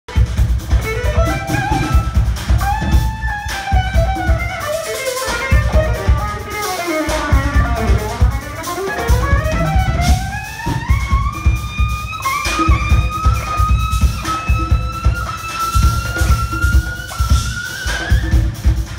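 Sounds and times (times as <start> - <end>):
jazz-funk band drums: 0.0 - 18.9
electric violin sliding notes: 0.1 - 18.9.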